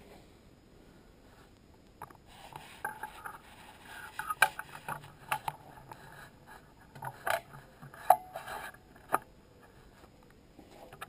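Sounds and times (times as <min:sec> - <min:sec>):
faint scraping: 0:00.0 - 0:11.0.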